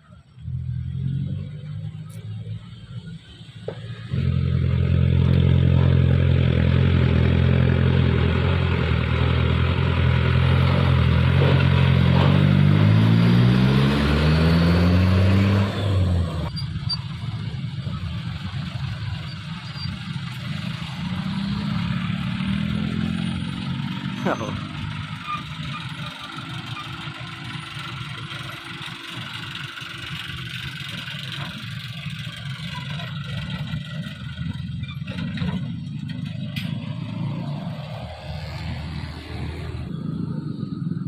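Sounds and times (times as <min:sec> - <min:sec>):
diesel truck engine revving: 0:00.2 - 0:41.0.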